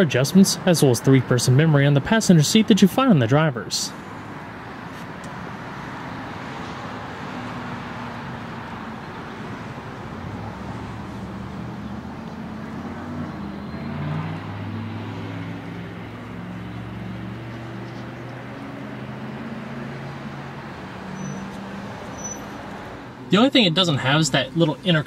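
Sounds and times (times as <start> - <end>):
road traffic noise: 0.0 - 25.0
vehicle engine humming: 0.0 - 25.0.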